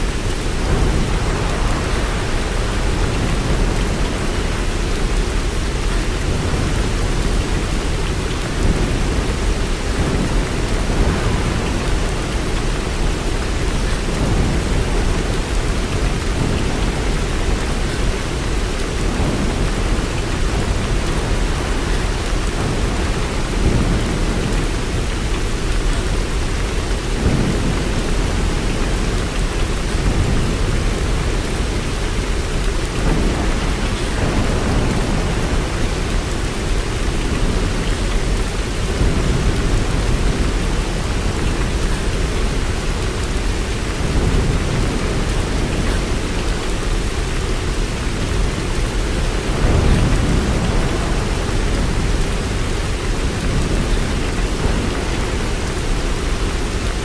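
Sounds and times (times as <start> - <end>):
heavy rain: 0.0 - 57.0
low thunder rumble: 0.0 - 57.0.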